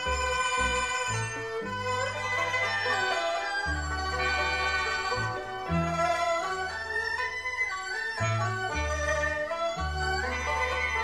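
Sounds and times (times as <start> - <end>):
gliding melody: 0.0 - 11.0.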